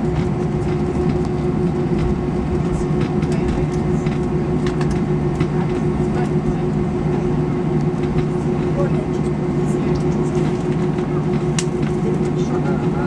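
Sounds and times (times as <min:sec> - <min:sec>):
airliner cabin hum: 0:00.0 - 0:13.0.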